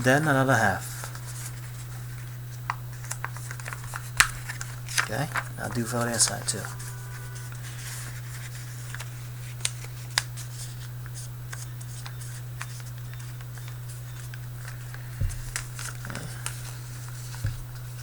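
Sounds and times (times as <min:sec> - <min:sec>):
steady low hum: 0:00.0 - 0:18.0
paper being folded and creased: 0:01.0 - 0:18.0.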